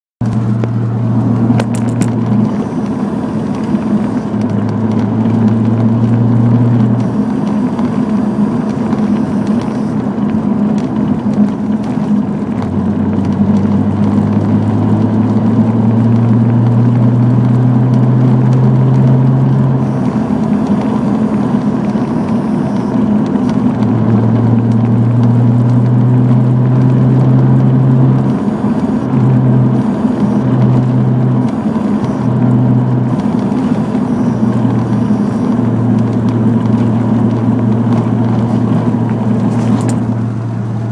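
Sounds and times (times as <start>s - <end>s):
low buzzing drone: 0.2s - 40.9s.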